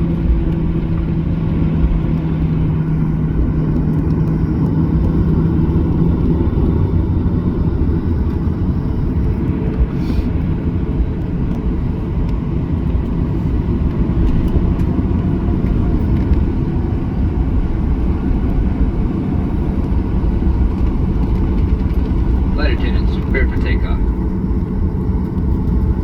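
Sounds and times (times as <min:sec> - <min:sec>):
jet engines rumbling: 0:00.0 - 0:26.0
low hum: 0:00.0 - 0:26.0.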